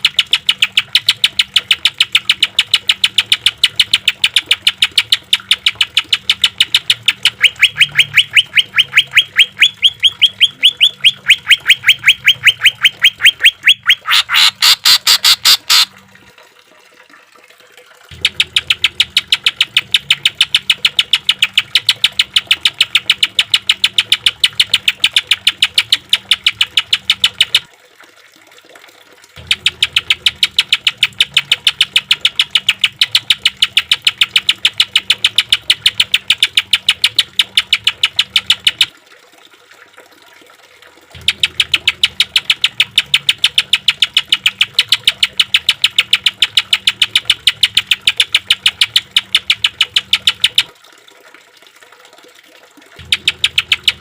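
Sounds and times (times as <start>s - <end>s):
bird giving harsh rapid rattles: 0.0s - 15.9s, 18.2s - 27.6s, 29.4s - 38.9s, 41.2s - 50.7s, 53.0s - 54.0s.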